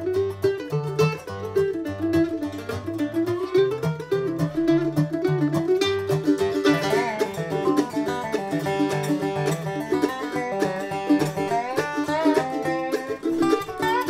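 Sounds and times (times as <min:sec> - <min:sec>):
dobro: 0:00.0 - 0:14.0
mandolin: 0:00.0 - 0:14.0.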